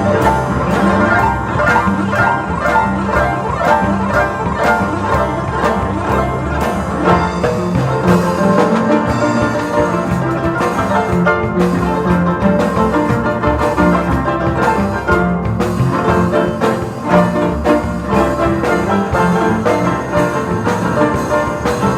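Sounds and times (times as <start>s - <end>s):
harps playing fast plucked tune: 0.0s - 21.9s.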